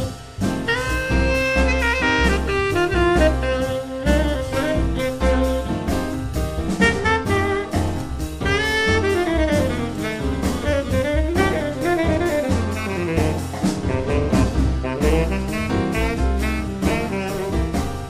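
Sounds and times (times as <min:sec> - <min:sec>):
bass: 0:00.0 - 0:18.0
drums: 0:00.0 - 0:18.0
horn playing jazz melody: 0:00.0 - 0:18.0.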